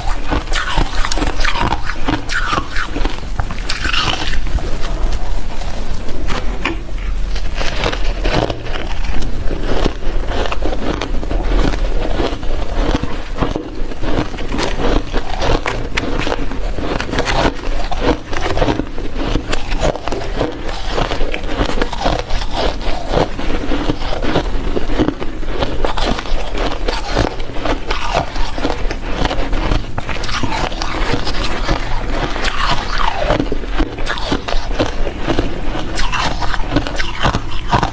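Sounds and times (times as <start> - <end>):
ice being chewed: 0.0 - 37.9.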